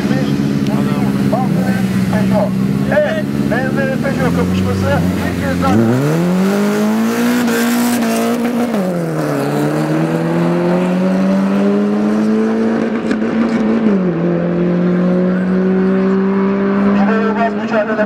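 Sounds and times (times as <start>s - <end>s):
cars accelerating hard: 0.0s - 18.0s.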